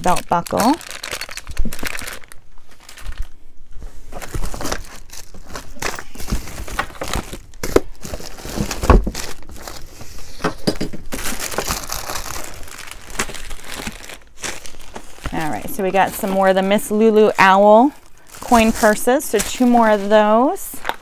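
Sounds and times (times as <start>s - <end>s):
packaging crinkling and rustling: 0.0s - 21.0s.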